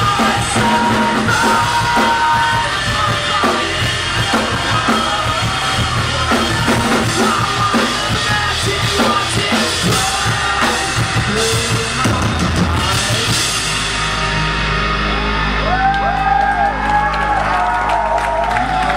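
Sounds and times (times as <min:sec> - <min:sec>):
sustained guitar tones: 0:00.0 - 0:16.4
live rock band playing: 0:00.0 - 0:18.9
pounding drum kit: 0:00.0 - 0:18.9.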